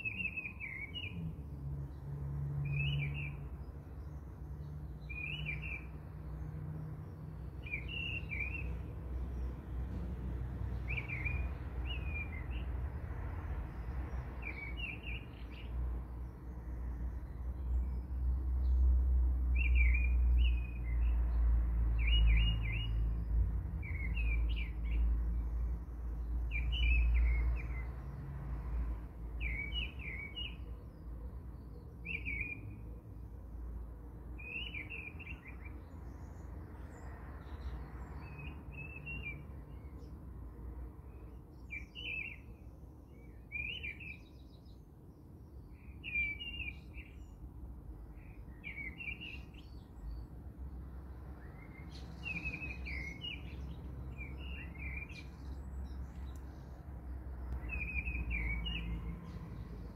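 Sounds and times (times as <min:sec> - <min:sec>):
bird chirping: 0:00.0 - 0:10.0, 0:10.7 - 0:12.7, 0:13.7 - 0:18.9, 0:19.5 - 0:28.2, 0:29.4 - 0:32.8, 0:34.4 - 0:40.2, 0:41.1 - 0:44.8, 0:45.5 - 0:47.5, 0:48.1 - 0:59.9.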